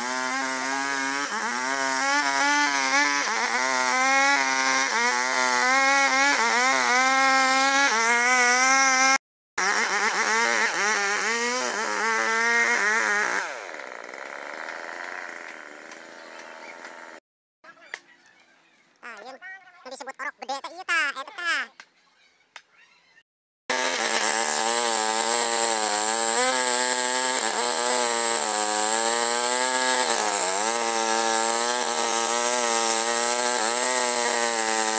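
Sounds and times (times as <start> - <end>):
chainsaw cutting wood: 0.0 - 17.2, 23.7 - 34.9.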